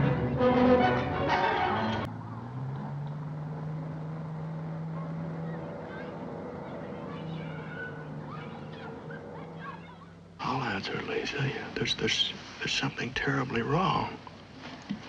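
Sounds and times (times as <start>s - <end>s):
steady low drone: 0.0s - 12.9s.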